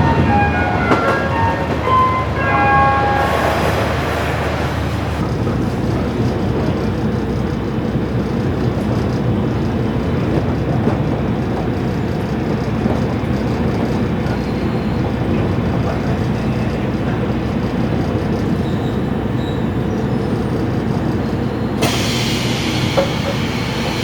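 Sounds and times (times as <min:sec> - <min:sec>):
train running on rails: 0:00.0 - 0:24.0.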